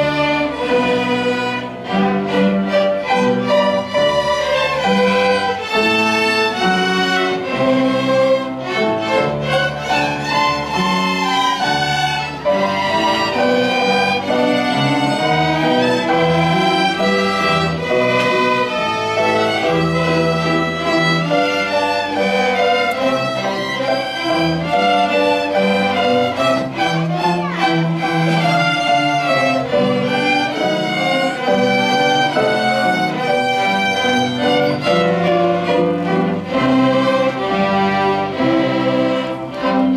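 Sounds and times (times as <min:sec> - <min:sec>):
lower musical accompaniment: 0:00.0 - 0:39.9
violin melody: 0:00.0 - 0:39.9.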